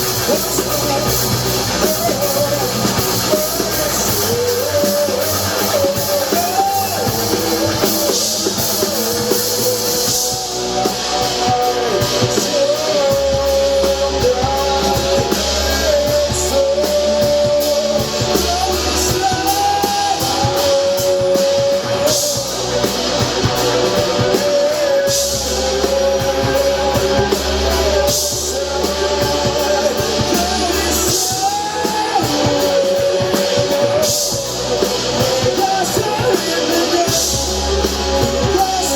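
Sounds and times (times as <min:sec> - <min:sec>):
bass guitar: 0:00.0 - 0:38.9
drum kit: 0:00.0 - 0:38.9
electric guitar: 0:00.0 - 0:38.9
person singing: 0:00.0 - 0:38.9.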